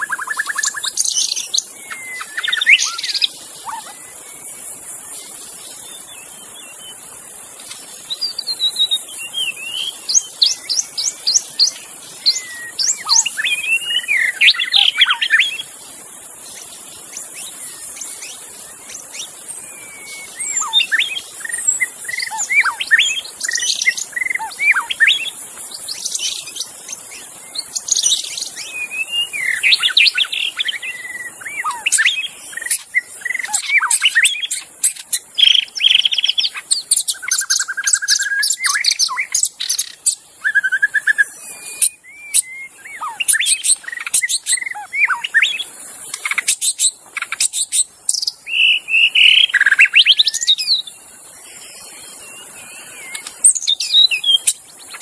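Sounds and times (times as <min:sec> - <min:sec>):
songbird singing whistled phrases: 0:00.0 - 0:55.0
steady high hiss: 0:00.0 - 0:55.0.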